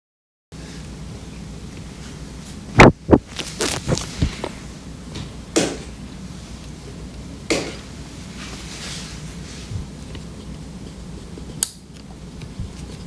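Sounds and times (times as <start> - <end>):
low steady hum: 0.6 - 13.0.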